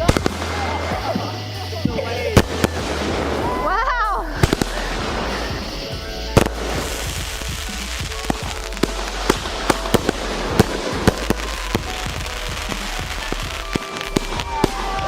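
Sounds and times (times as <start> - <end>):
background music: 0.0 - 15.0
fireworks cracking and popping: 0.0 - 15.0.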